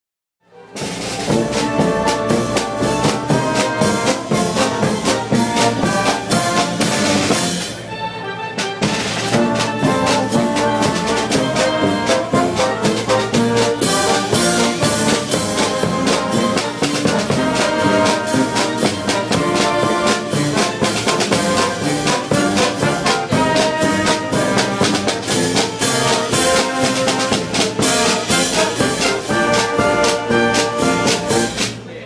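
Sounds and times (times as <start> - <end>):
brass band playing: 0.5 - 32.0.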